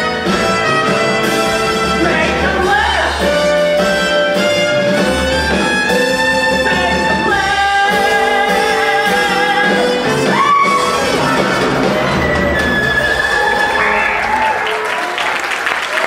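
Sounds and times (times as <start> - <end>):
strings melody: 0.0 - 15.1
pit orchestra playing: 0.0 - 15.6.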